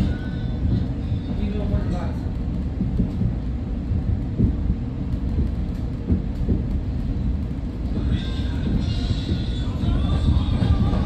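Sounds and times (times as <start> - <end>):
train knocks: 0.0 - 11.0
train rumbling on track: 0.0 - 11.0.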